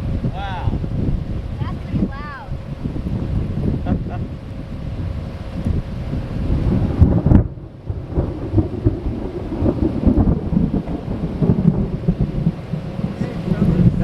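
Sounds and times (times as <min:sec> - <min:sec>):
rolling thunder: 0:00.0 - 0:14.0.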